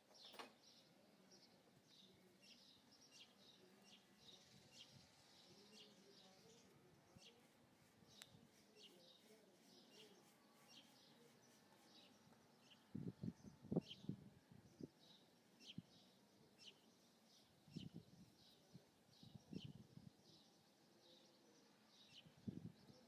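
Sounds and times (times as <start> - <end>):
faint bird chirping: 0.0 - 23.0.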